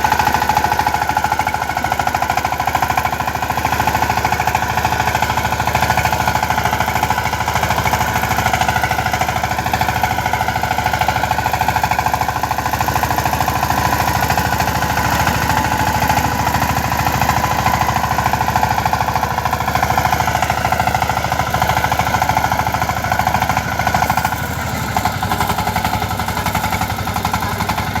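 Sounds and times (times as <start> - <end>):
diesel engine knocking steadily: 0.0 - 28.0.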